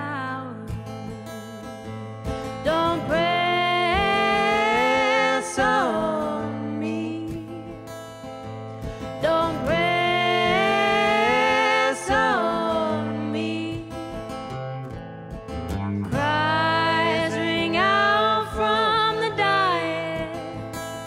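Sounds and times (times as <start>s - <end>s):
strummed acoustic guitar: 0.0s - 21.0s
man and woman singing folk song: 1.1s - 8.2s, 8.8s - 14.6s, 16.1s - 21.0s.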